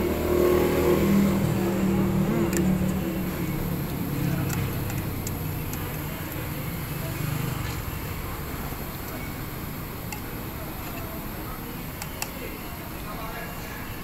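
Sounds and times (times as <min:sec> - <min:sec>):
vehicle engine running: 0:00.0 - 0:12.3
traffic noise: 0:00.0 - 0:14.0.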